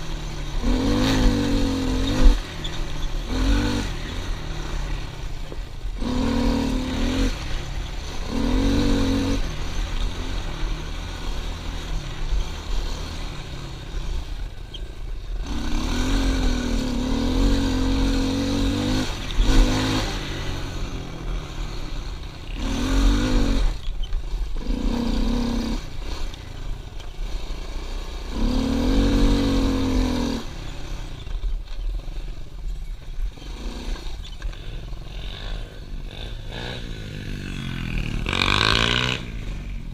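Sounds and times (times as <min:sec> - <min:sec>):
pit bike engine revving: 0:00.0 - 0:31.4, 0:33.2 - 0:39.9.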